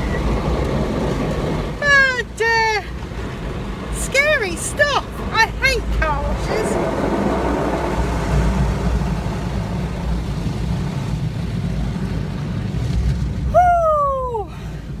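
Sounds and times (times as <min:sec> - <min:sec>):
car wash machinery: 0:00.0 - 0:15.0.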